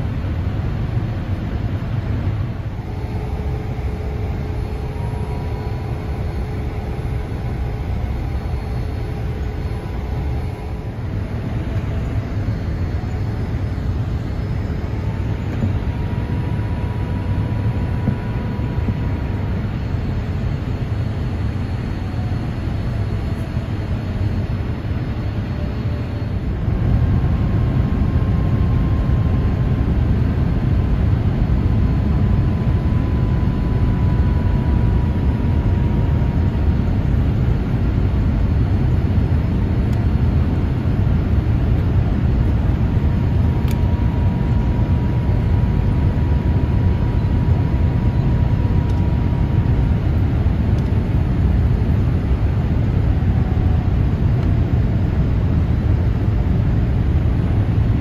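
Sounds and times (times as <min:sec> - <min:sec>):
airplane engine and airflow rumble: 0:00.0 - 0:58.0
faint engine whine: 0:00.0 - 0:58.0.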